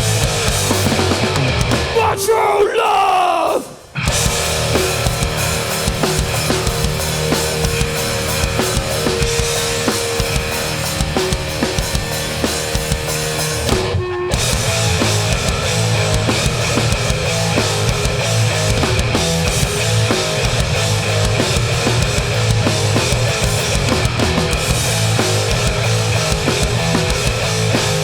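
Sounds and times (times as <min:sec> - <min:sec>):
punk band playing: 0:00.0 - 0:28.0.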